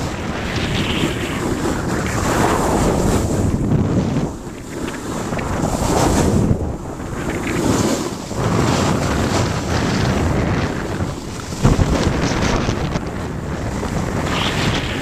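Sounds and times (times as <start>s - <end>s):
snowboard edges carving snow: 0.0s - 15.0s
wind rushing over microphone: 0.0s - 15.0s.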